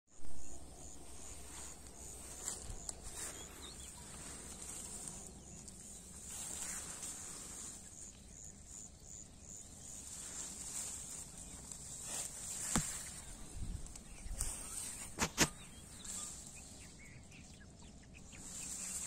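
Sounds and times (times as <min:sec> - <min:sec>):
insects trilling: 0:00.4 - 0:19.0
leaves rustling: 0:00.7 - 0:17.5, 0:18.2 - 0:19.0.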